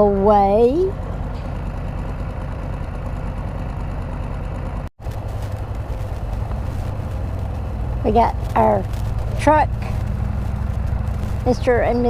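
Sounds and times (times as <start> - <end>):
three-wheeler engine droning: 0.0 - 12.0.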